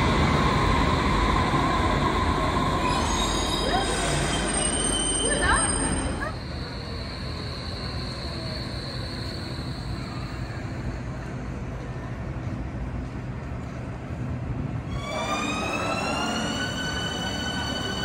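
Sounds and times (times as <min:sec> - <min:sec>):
tram running rumble: 0:00.0 - 0:18.0.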